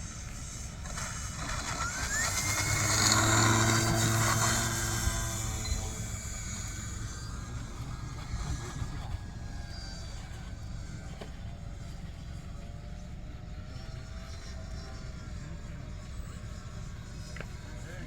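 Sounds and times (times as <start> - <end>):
model plane motor in flight: 0.0 - 18.0.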